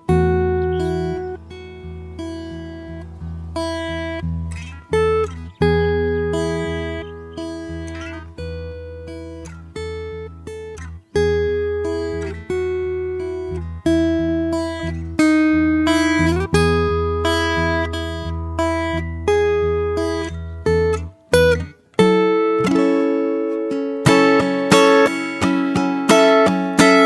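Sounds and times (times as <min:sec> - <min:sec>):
fingerstyle acoustic guitar: 0:00.0 - 0:27.0.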